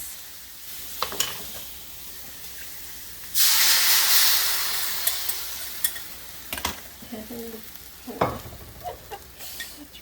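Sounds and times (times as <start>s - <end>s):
low sizzle: 0.0s - 10.0s
sauce hissing in hot oil: 0.0s - 10.0s.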